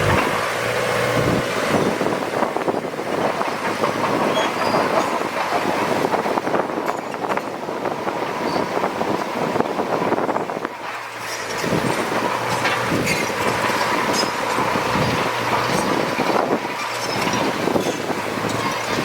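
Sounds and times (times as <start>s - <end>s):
diesel machinery engine hum: 0.0s - 19.0s.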